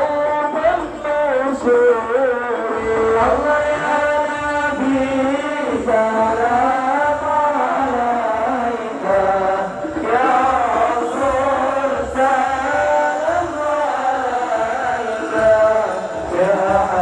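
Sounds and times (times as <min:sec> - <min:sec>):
voices chanting devotional song: 0:00.0 - 0:17.0.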